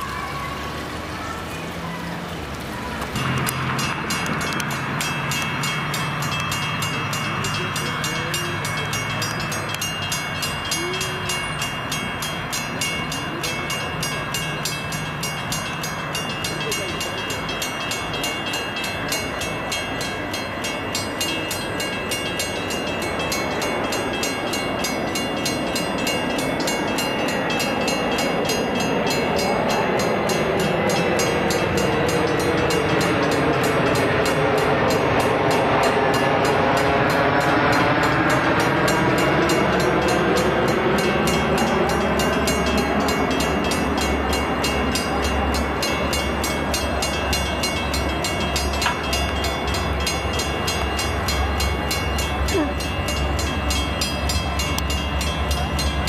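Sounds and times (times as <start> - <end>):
crossing bells ringing: 0.0 - 56.0
locomotive low rumble: 0.0 - 56.0
train rushing noise: 0.0 - 56.0.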